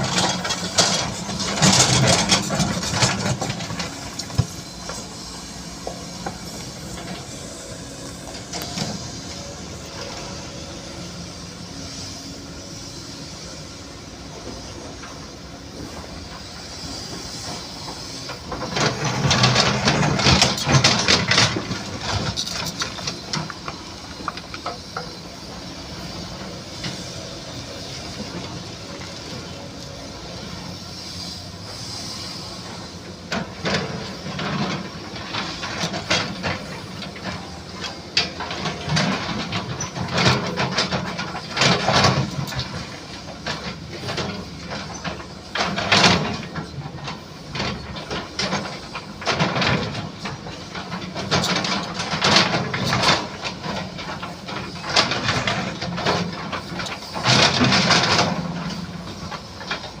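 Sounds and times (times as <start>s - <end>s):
excavator clattering and hissing: 0.0s - 60.0s.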